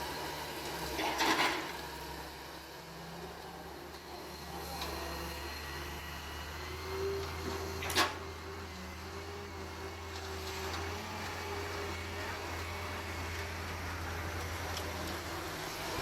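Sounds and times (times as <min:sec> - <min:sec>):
digging machine engine running: 0:00.0 - 0:16.0.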